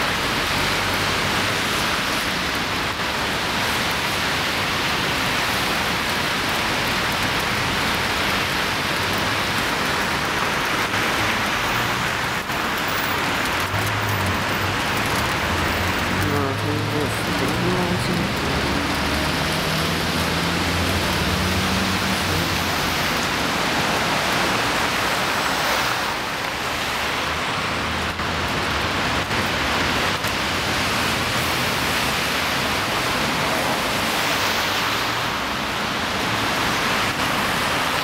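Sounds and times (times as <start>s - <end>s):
outdoor street noise hiss: 0.0s - 38.0s.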